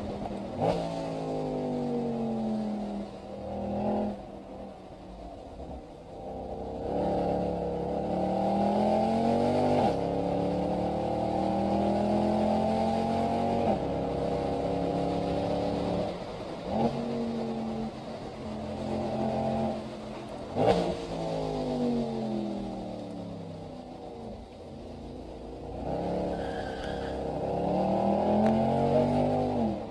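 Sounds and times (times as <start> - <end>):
car engine accelerating: 0.0 - 29.9.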